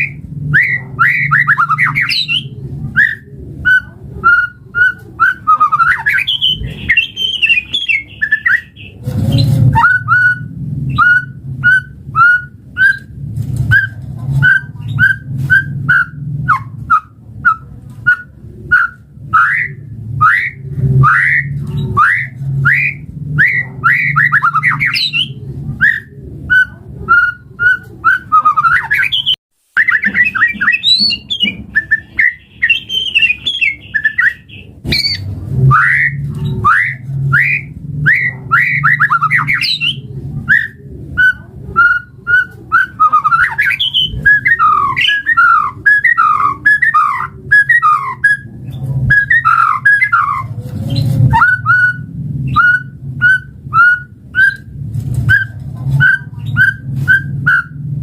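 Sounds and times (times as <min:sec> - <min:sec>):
steady low hum: 0:00.0 - 0:28.9, 0:31.2 - 0:58.0
songbird whistling and chattering: 0:00.0 - 0:57.9.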